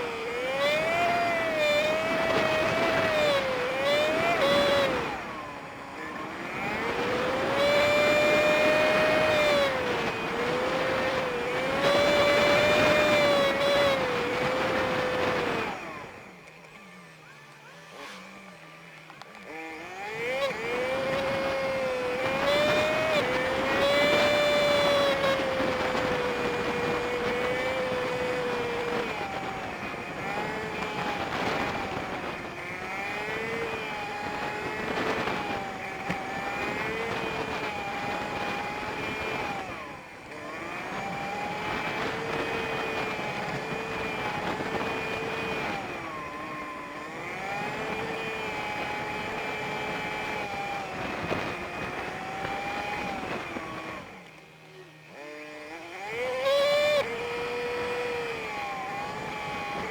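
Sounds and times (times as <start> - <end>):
small motorcycle engine revving: 0.0 - 59.9.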